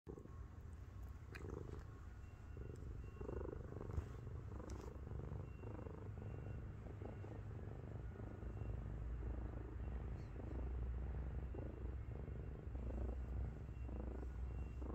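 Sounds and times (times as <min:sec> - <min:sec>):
cat purring: 0:00.1 - 0:14.9.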